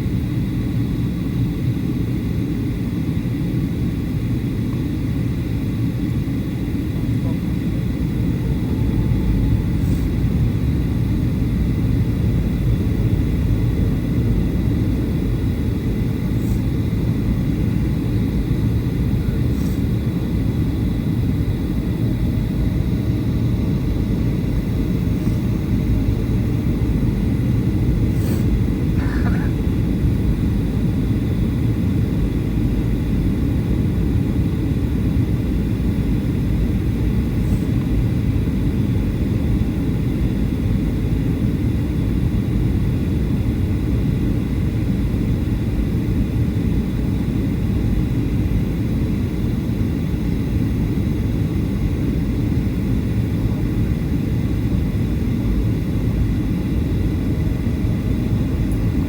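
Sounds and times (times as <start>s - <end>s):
airplane cabin engine rush: 0.0s - 59.0s
faint constant whine: 0.0s - 59.0s.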